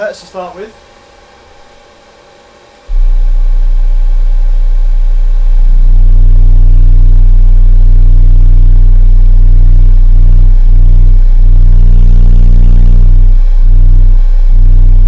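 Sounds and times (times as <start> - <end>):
subwoofer playing deep test tone: 0.7 - 15.0.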